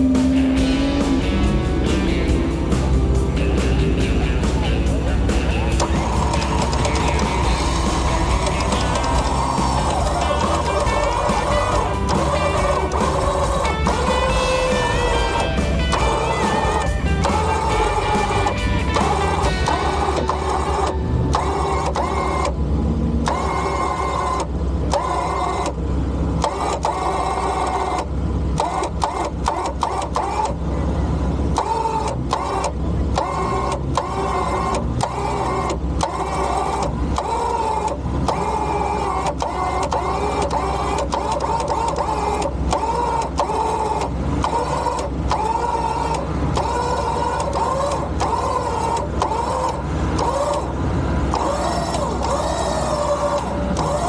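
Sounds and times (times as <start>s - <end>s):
electric winch motor whine: 0.0s - 54.0s.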